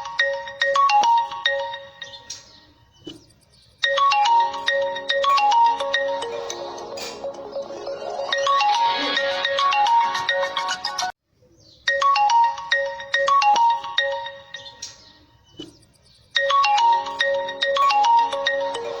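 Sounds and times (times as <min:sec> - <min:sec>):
ringtone melody of bright notes: 0:00.0 - 0:03.1, 0:03.8 - 0:11.2, 0:11.9 - 0:15.6, 0:16.4 - 0:19.0.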